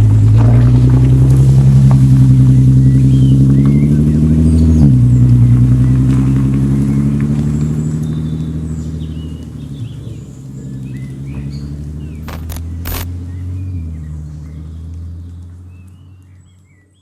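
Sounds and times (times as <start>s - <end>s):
car engine and exhaust: 0.0s - 17.0s.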